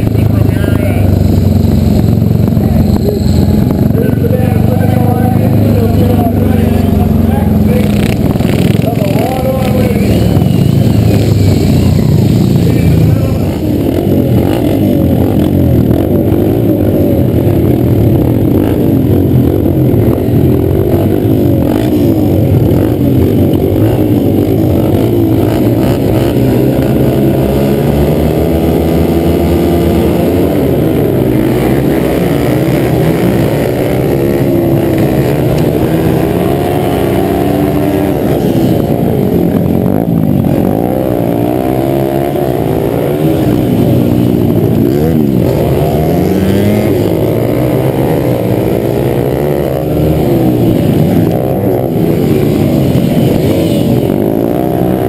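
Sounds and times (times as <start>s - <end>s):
motorcycle engines revving hard: 0.0s - 55.0s.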